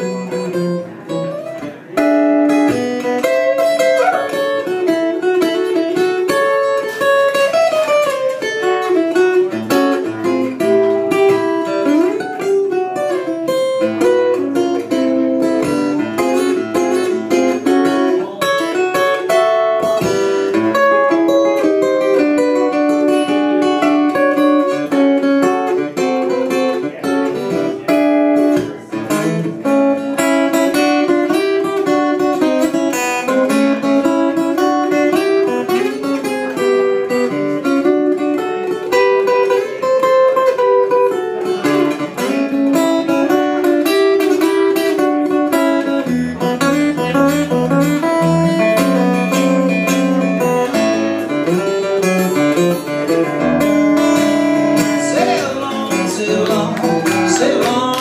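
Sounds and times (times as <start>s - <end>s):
acoustic guitar picking: 0.0s - 58.0s.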